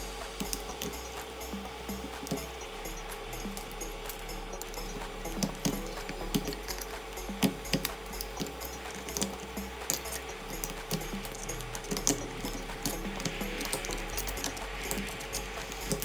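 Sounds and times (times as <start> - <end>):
faint hum: 0.0 - 16.0
small tools clicking on phone parts: 0.4 - 16.0.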